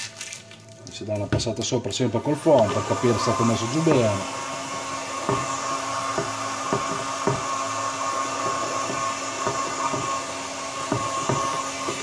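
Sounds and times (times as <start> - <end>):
hot-air gun fan whine: 1.6 - 12.0.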